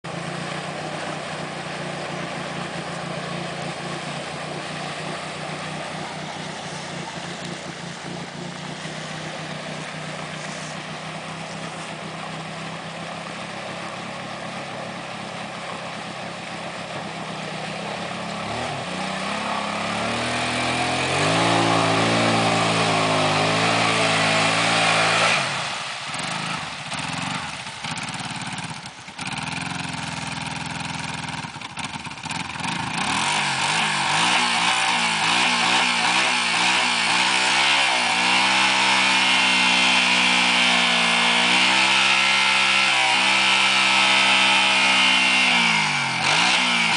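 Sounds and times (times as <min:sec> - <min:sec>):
vehicle engine revving under load: 0:00.0 - 0:46.9.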